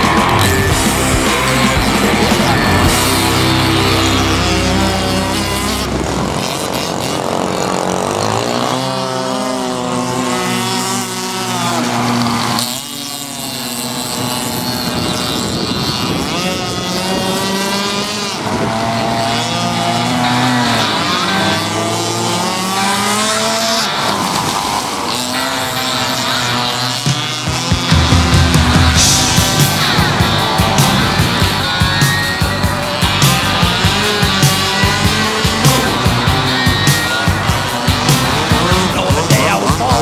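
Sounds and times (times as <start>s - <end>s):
small petrol engine revving: 0.0s - 40.0s.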